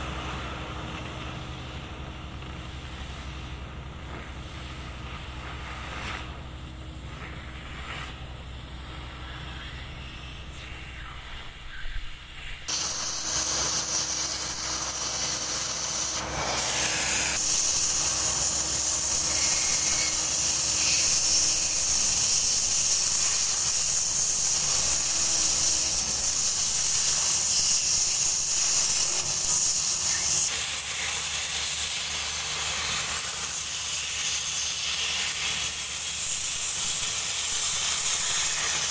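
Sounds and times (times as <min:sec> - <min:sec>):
cutting torch gas jet hissing: 0:00.0 - 0:38.9.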